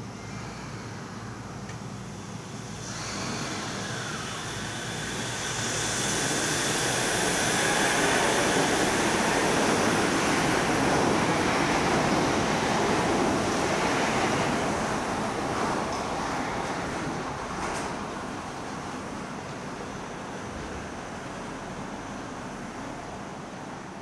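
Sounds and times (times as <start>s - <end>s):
monorail train passing: 0.0s - 24.0s.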